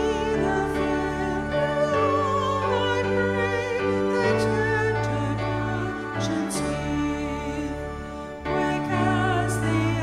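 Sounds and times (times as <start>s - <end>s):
woman singing a hymn: 0.0s - 7.8s, 8.5s - 10.0s.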